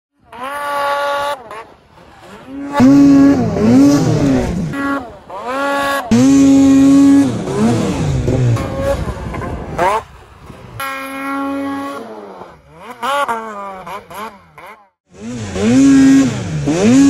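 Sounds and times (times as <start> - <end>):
snowmobile engine revving: 0.1 - 17.0.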